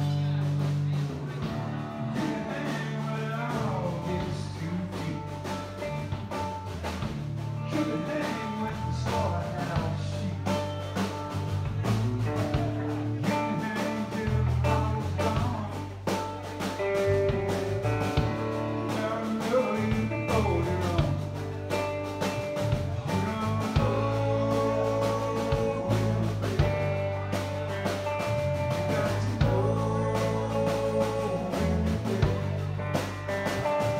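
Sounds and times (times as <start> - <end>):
drums: 0.0 - 33.9
electric bass: 0.0 - 33.9
electric guitar: 0.0 - 33.9.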